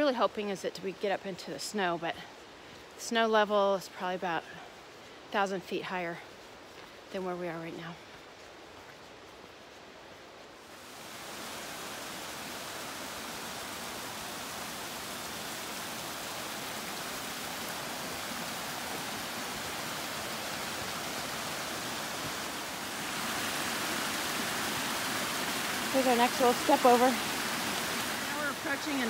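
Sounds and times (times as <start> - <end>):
rushing creek water: 0.0 - 29.0.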